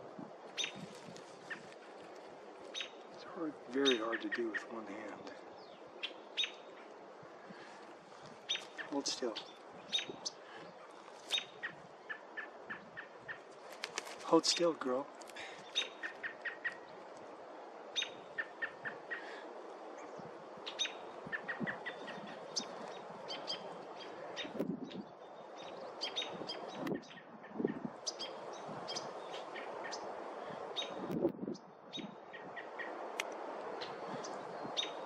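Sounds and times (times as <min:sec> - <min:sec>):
bird chirping: 0:00.6 - 0:01.8, 0:02.7 - 0:06.9, 0:07.5 - 0:13.9, 0:15.5 - 0:17.0, 0:17.9 - 0:33.0, 0:33.7 - 0:35.0.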